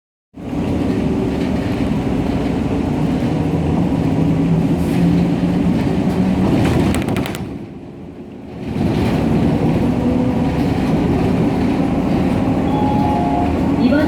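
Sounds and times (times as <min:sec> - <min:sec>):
bus cabin hum: 0:00.4 - 0:14.0
bus engine rumble: 0:00.4 - 0:14.0.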